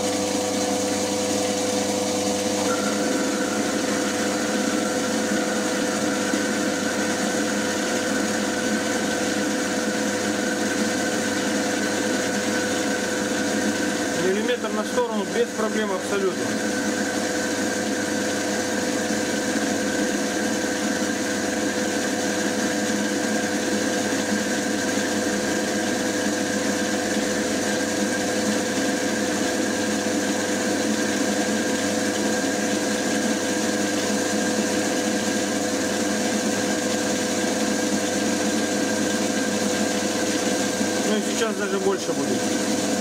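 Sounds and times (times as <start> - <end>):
lathe motor and gearing whine: 0.0 - 43.0.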